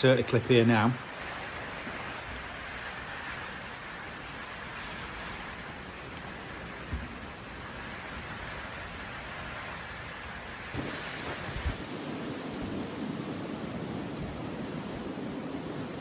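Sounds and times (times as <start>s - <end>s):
heavy rain and wind: 0.0s - 16.0s.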